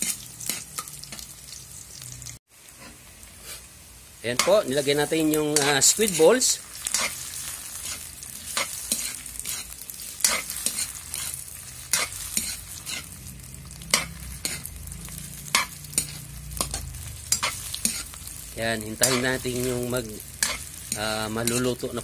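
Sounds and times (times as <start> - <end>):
metal spatula scraping a wok: 0.0 - 1.3, 2.7 - 3.7, 4.3 - 22.0
food sizzling in oil: 0.0 - 22.0.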